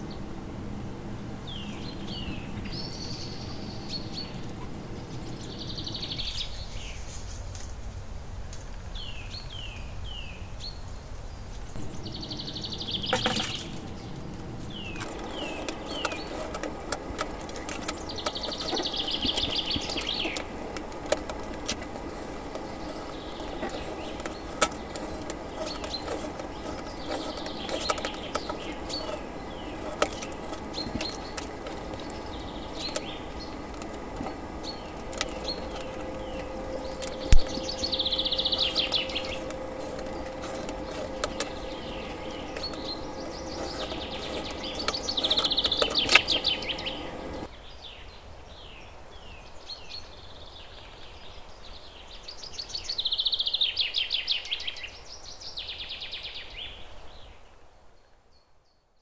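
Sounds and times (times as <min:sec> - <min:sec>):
small birds chirping: 0:00.0 - 0:08.0, 0:08.6 - 0:58.5
background hiss: 0:00.0 - 0:58.1.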